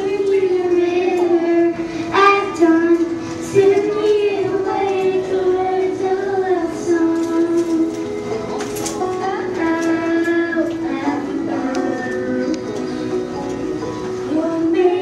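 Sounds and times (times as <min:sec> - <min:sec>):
girl singing into a microphone: 0:00.0 - 0:08.1, 0:08.8 - 0:13.2, 0:14.2 - 0:15.0.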